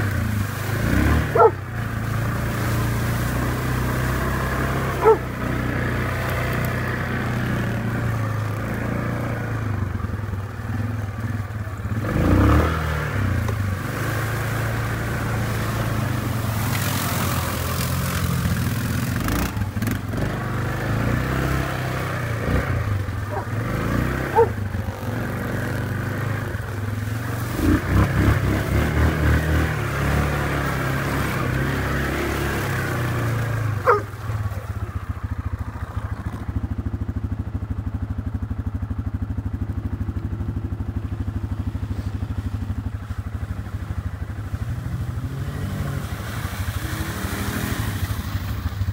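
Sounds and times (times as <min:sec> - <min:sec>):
atv engine revving and idling: 0:00.0 - 0:48.9.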